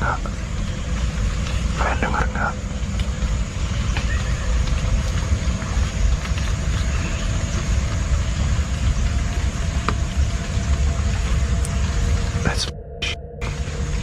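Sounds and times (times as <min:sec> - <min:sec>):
rain on a tent: 0:00.0 - 0:12.6.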